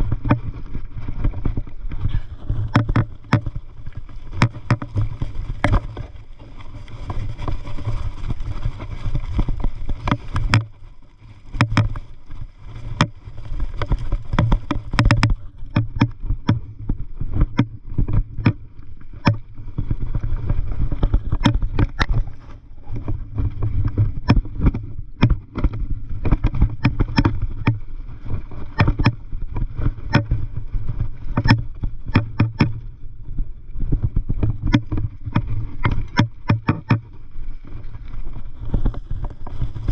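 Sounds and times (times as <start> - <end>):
bike knocks and rattles: 0.0 - 19.4, 20.4 - 27.8, 28.5 - 32.8, 34.1 - 37.2
mountain bike rumbling on dirt: 0.0 - 39.9.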